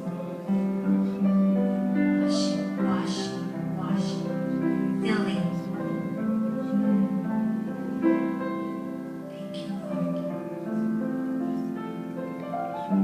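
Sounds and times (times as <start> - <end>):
slow keyboard music: 0.0 - 13.0.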